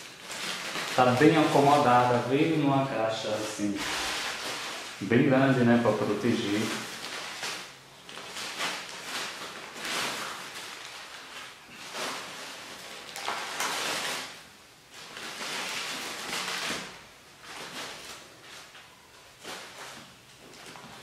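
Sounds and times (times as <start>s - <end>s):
newspaper and plastic crinkling: 0.0s - 21.0s.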